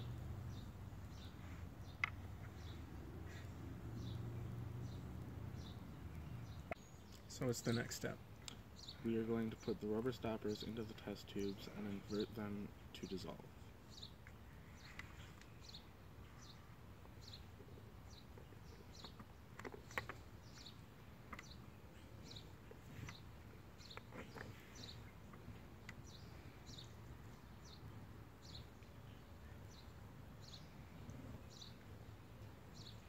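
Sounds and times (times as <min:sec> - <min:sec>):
faint bird chirping: 0:00.0 - 0:33.0.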